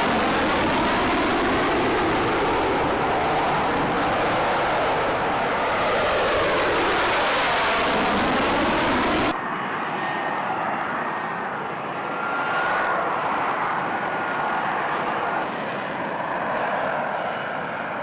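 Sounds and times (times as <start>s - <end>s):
aircraft engine roar: 0.0s - 18.0s
engine running with high whine: 0.0s - 18.0s.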